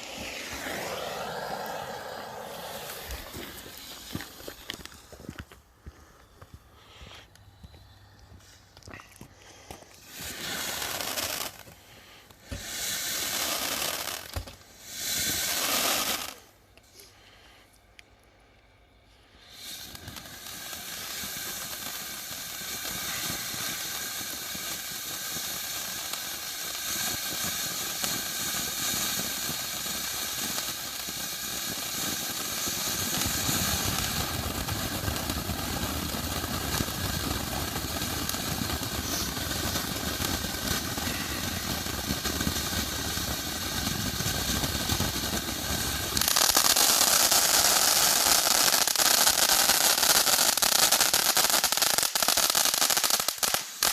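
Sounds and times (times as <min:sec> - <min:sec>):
firework fountain hissing: 0:00.0 - 0:08.8, 0:09.7 - 0:17.1, 0:19.2 - 0:53.9.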